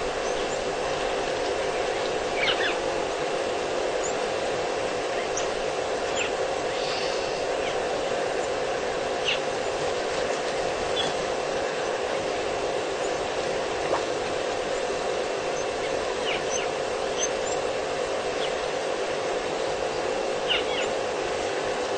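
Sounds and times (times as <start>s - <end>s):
background hum and hiss: 0.0s - 21.9s.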